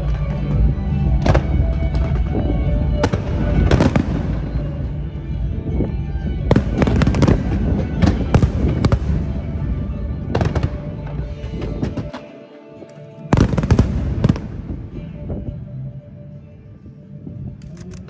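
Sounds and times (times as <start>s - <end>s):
fireworks bangs and crackles: 0.0s - 12.2s, 13.3s - 15.6s.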